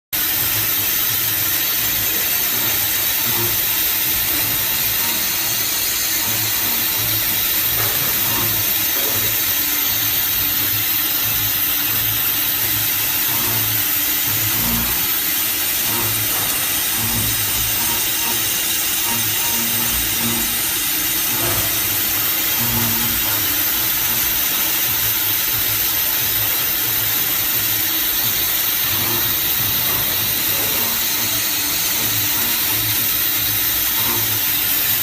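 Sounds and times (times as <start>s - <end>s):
milling spindle machining hiss: 0.2s - 35.0s.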